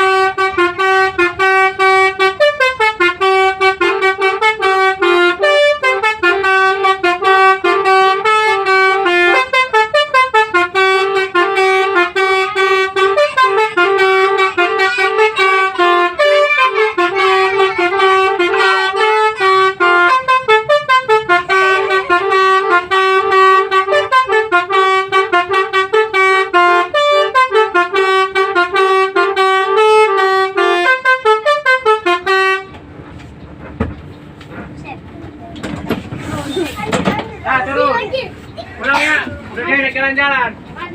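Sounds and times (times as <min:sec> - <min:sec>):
multi-tone bus horn tune: 0:00.0 - 0:32.9.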